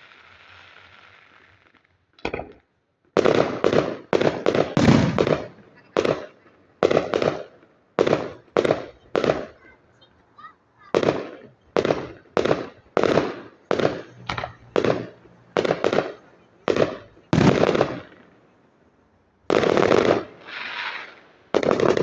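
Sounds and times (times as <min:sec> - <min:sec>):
fireworks bangs: 0:00.0 - 0:18.4, 0:19.4 - 0:22.0.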